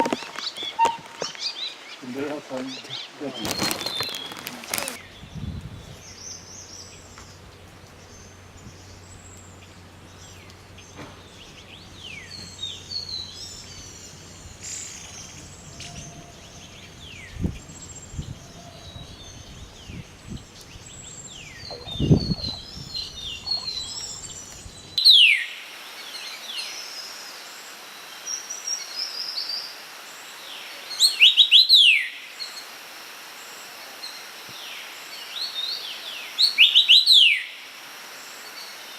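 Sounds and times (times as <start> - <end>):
songbirds chirping and whistling: 0.0 - 27.0, 30.3 - 32.6, 34.0 - 37.6.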